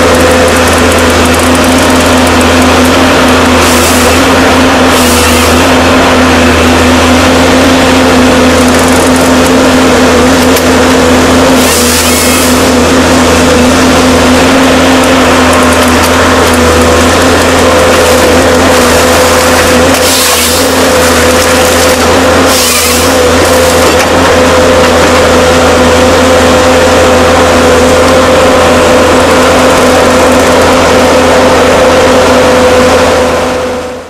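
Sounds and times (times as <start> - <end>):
diesel engine and hydraulics: 0.0 - 34.0.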